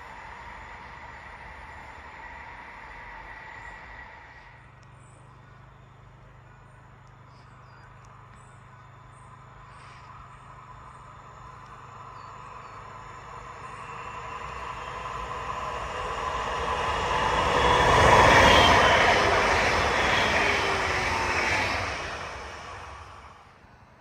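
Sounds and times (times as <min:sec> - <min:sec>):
train passing: 0:00.0 - 0:07.2, 0:08.6 - 0:24.0.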